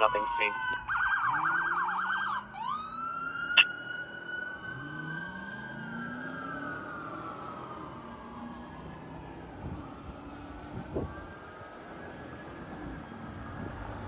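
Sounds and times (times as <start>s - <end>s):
fire engine siren: 0.0s - 14.0s.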